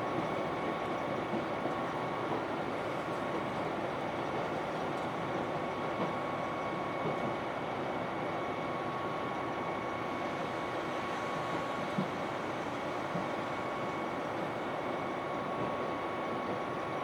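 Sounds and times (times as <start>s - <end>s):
diesel train running at speed: 0.0s - 17.0s.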